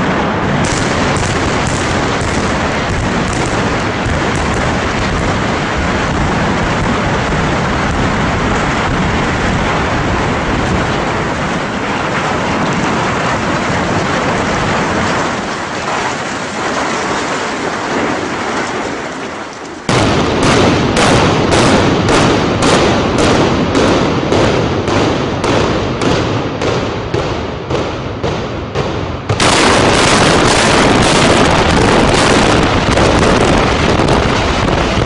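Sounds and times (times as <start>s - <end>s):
building collapsing roar: 0.0s - 35.0s
sharp cracks: 0.0s - 35.0s.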